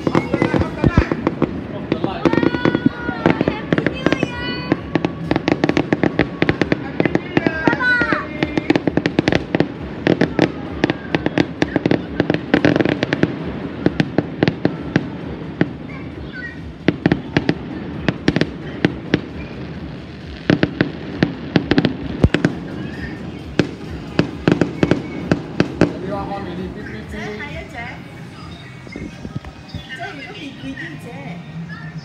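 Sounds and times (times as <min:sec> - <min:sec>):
continuous rumble: 0:00.0 - 0:32.0
fireworks bangs and crackles: 0:00.0 - 0:32.0.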